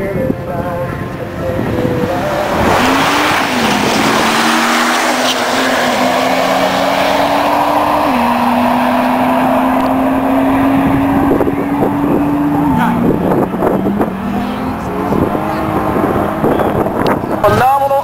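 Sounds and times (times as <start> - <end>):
drag race car accelerating: 1.1 - 17.6.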